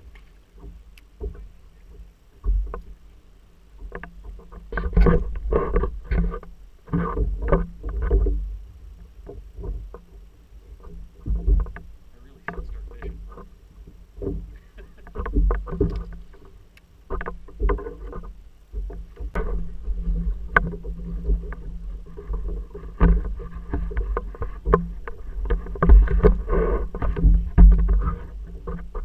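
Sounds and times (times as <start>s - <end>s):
water lapping against hull: 0.0s - 29.0s
wind rumbling on microphone: 0.0s - 29.0s.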